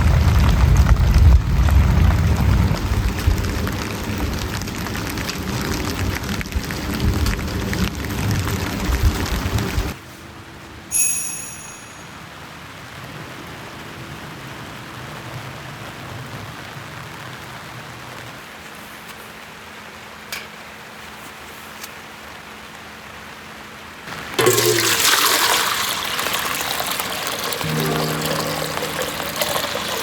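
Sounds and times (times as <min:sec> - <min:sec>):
steady rain: 0:00.0 - 0:10.9, 0:12.2 - 0:24.7, 0:25.3 - 0:30.0.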